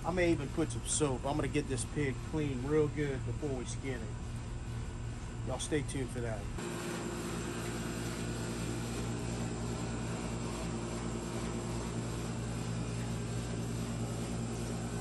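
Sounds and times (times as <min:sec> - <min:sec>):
machine humming with steady tones: 0:00.0 - 0:15.0.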